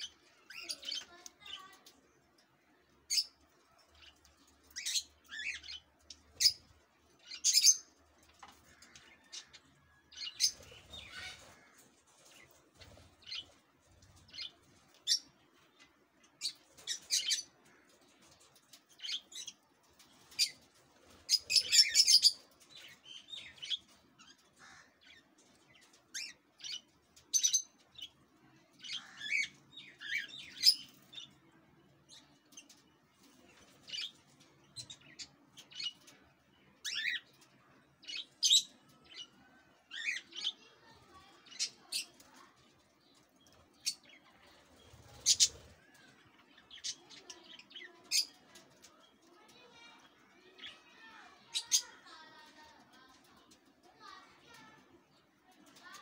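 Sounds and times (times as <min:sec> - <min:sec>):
birds chirping and squawking: 0:00.0 - 0:56.0.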